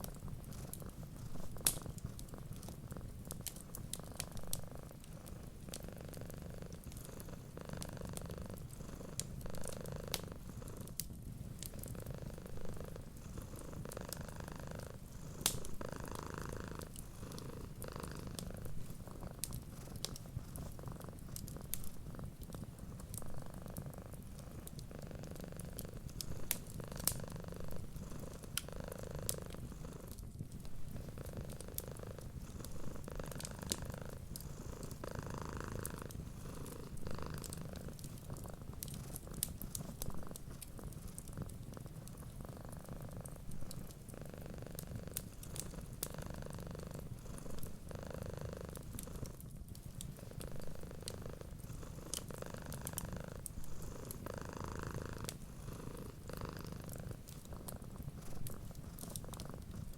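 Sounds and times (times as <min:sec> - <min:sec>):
cat purring: 0:00.0 - 0:59.9
wood fire crackling: 0:00.0 - 0:59.9.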